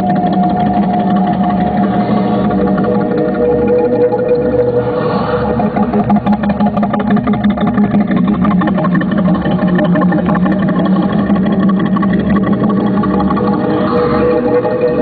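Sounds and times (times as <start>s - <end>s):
low electronic drone: 0.0s - 15.0s
rapidly pulsing electronic texture: 0.0s - 15.0s.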